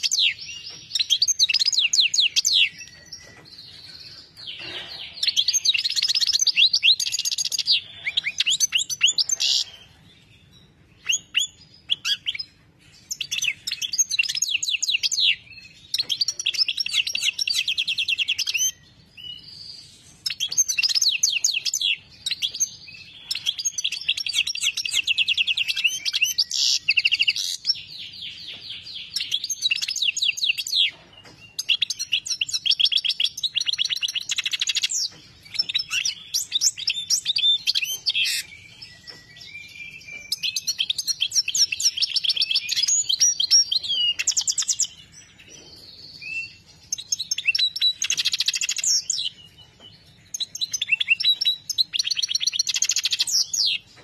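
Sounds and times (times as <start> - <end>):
goldfinch singing trills: 0.0 - 54.0.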